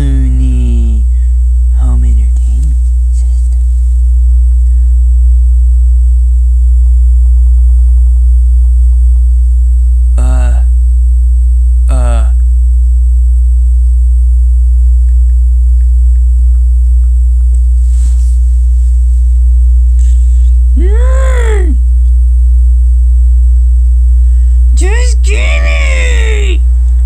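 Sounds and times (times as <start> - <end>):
subwoofer low bass hum: 0.0 - 27.0.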